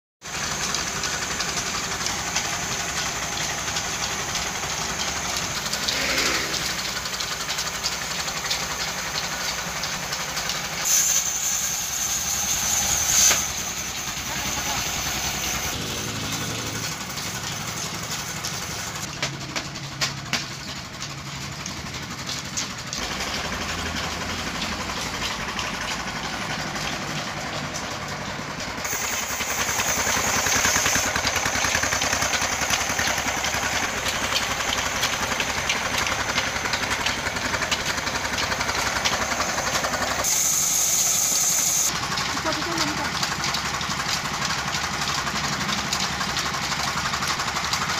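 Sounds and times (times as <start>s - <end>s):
engine running with rapid pulse: 0.3s - 47.9s.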